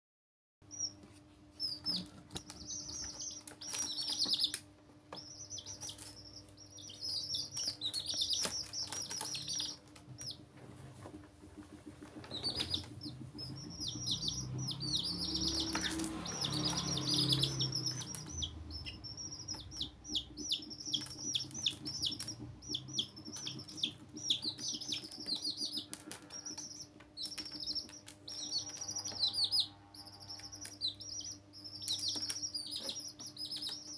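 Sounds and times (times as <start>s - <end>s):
baby chicks peeping: 0.7s - 33.9s.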